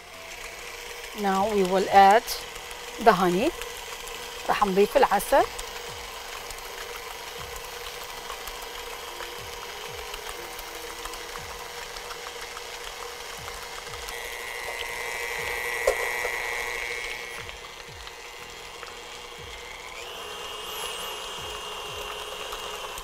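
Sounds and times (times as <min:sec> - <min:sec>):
stand mixer running: 0:00.0 - 0:23.0.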